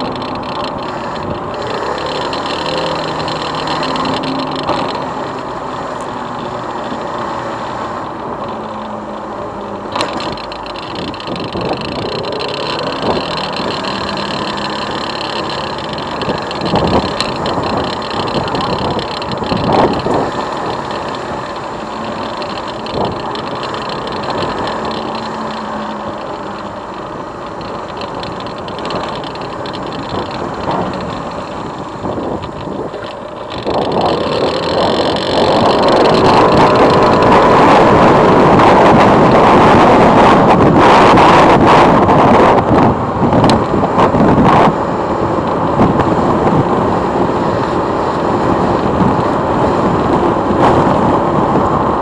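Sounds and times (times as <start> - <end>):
motorcycle running: 0.0 - 52.0
wind rushing over microphone: 0.0 - 52.0.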